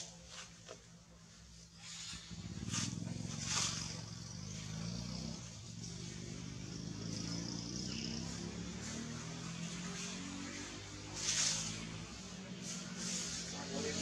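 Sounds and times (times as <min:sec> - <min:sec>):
vehicle engine humming: 0:01.0 - 0:14.0.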